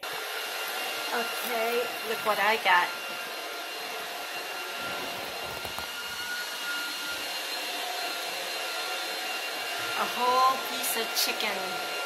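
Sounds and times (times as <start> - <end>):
electric fan whooshing: 0.1 - 12.0.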